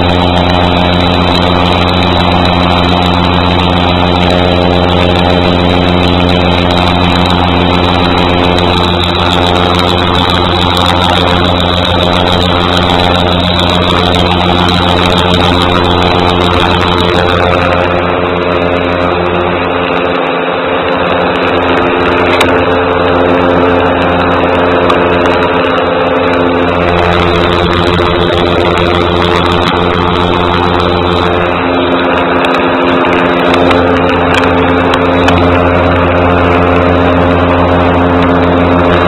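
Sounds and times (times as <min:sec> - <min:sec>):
paramotor engine drone: 0:00.0 - 0:39.0.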